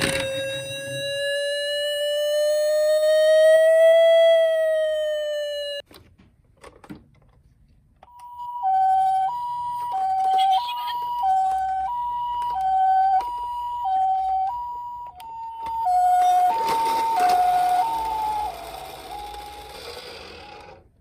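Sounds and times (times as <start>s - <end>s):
two-tone ambulance siren: 0.0s - 5.8s, 8.1s - 20.8s.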